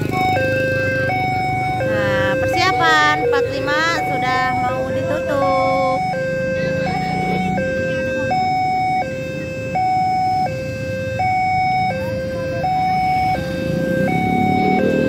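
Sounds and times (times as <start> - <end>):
two-tone level crossing alarm: 0.0 - 15.0.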